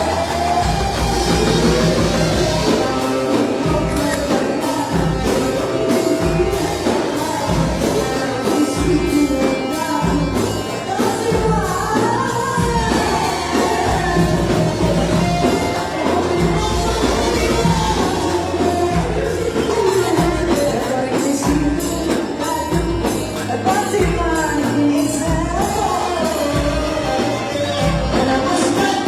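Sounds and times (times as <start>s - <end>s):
band playing: 0.0s - 29.0s
steady percussion beat: 0.0s - 29.0s
woman singing: 0.0s - 29.0s.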